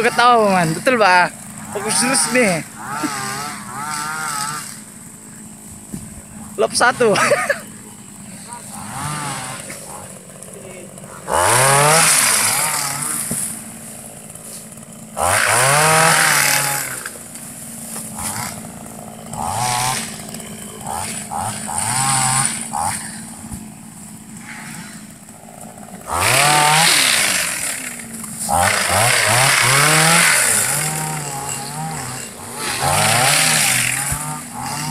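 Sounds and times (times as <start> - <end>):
small petrol engine revving: 0.0 - 34.9.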